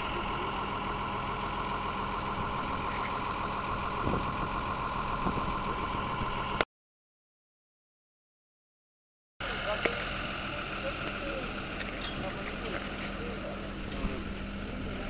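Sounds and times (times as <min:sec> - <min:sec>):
tractor engine droning: 0:00.0 - 0:06.6, 0:09.4 - 0:15.0.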